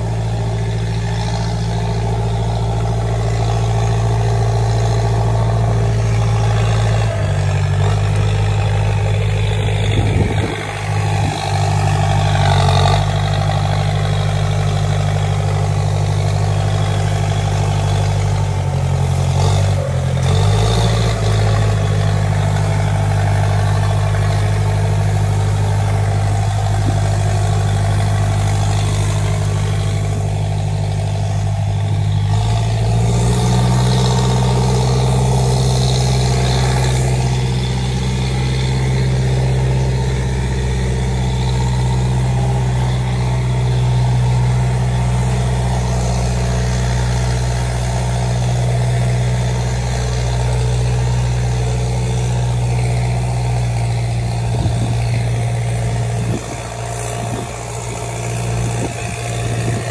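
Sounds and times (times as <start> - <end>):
tractor diesel engine droning: 0.0 - 59.9.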